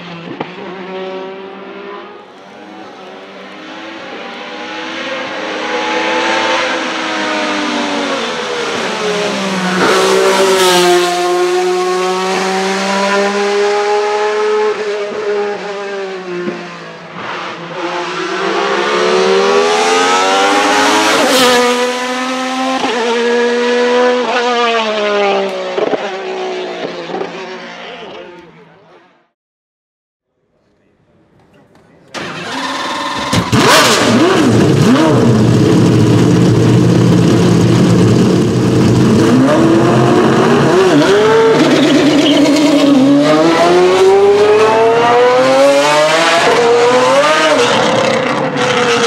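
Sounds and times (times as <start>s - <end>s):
race car engine revving: 0.1s - 29.0s, 32.2s - 49.0s.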